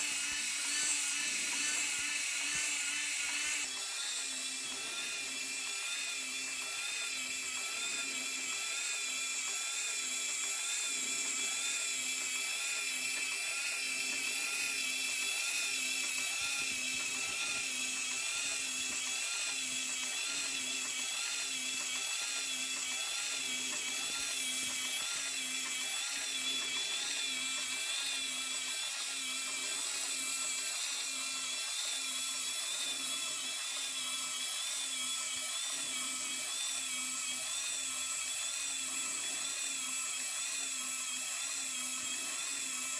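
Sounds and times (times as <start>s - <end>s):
small electric motor whine: 0.0s - 42.9s.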